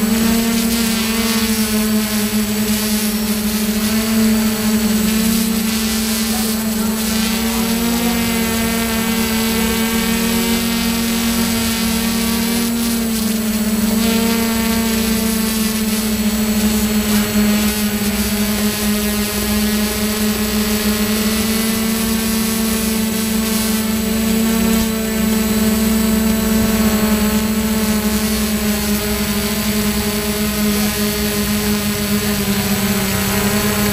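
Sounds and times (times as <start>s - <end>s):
drone propellers humming: 0.0s - 33.9s.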